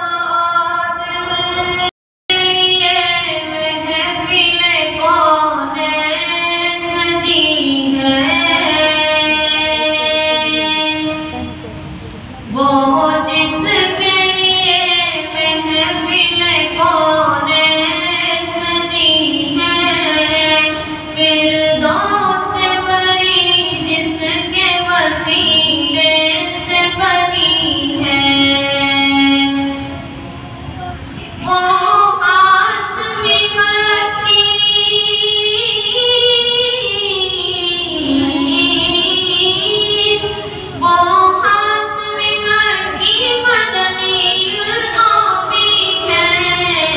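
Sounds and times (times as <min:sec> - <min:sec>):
boy singing into a microphone: 0:00.0 - 0:11.7, 0:12.4 - 0:46.9.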